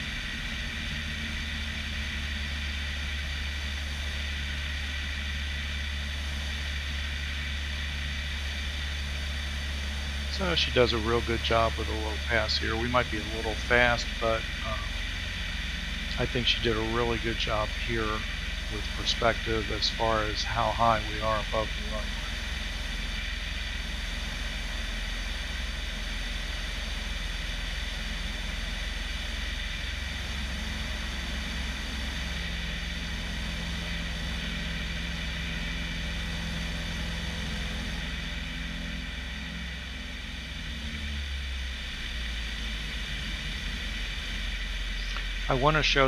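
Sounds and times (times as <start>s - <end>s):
propeller plane engine running: 0.0s - 46.0s.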